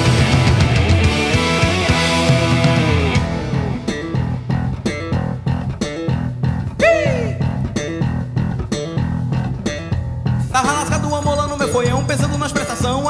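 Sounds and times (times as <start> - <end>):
bass guitar: 0.0 - 13.0
guitar riff: 0.0 - 13.0.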